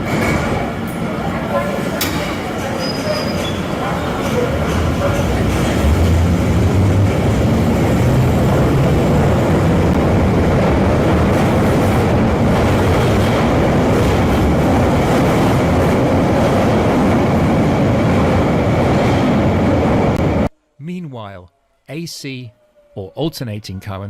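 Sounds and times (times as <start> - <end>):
train rumbling and rattling on rails: 0.0 - 20.6.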